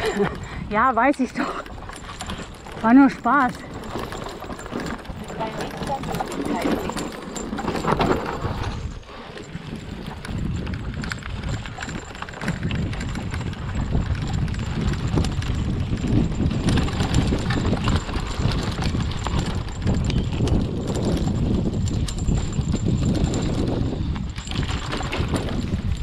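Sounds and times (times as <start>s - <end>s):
bike clattering and rattling: 0.0s - 26.0s.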